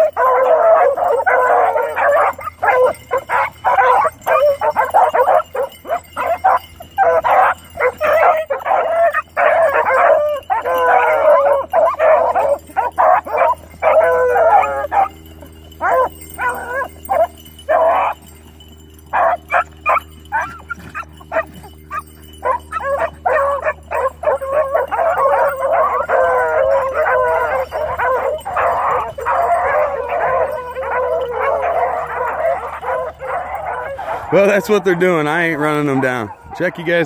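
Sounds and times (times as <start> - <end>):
beagles baying: 0.0 - 37.0.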